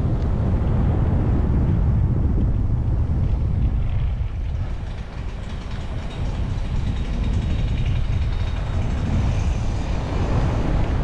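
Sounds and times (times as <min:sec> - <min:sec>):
vehicle road and wind rumble: 0:00.0 - 0:11.0.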